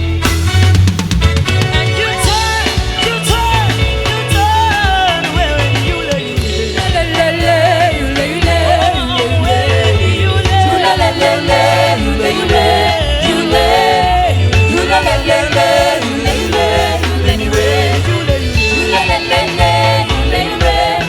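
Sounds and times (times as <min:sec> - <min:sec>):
band with strong bass line: 0:00.0 - 0:21.0
voices singing: 0:01.8 - 0:21.0.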